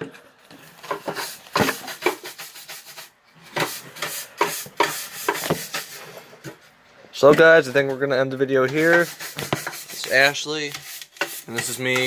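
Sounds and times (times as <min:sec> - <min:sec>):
rubbing and scraping: 0:00.5 - 0:12.0.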